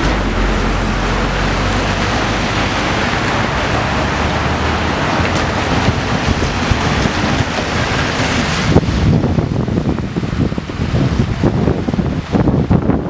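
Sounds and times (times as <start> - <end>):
car tyres swishing through water: 0.0 - 13.0.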